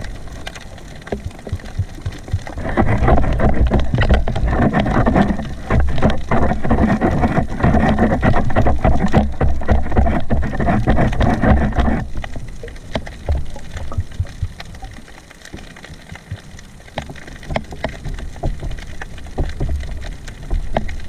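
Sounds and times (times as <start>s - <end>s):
underwater clicks and crackles: 0.0s - 21.0s
water rushing underwater: 0.0s - 21.0s.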